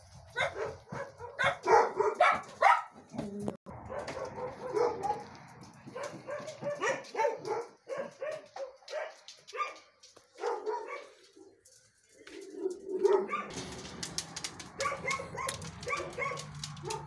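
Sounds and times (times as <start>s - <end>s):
dogs barking: 0.3s - 17.0s.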